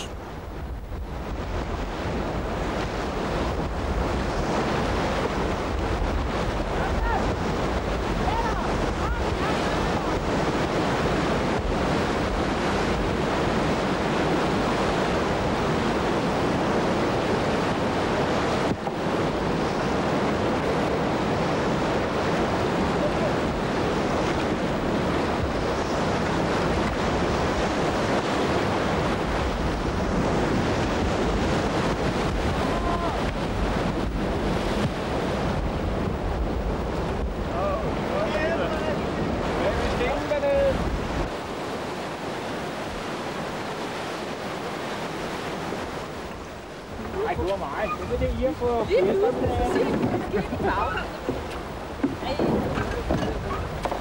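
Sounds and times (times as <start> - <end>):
river rapids rushing: 0.0 - 54.0
wind buffeting microphone: 0.0 - 54.0.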